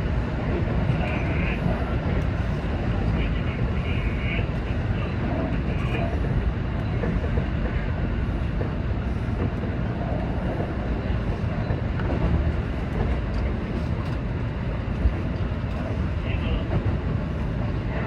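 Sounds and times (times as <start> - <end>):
low rumble of train wheels: 0.0 - 18.0.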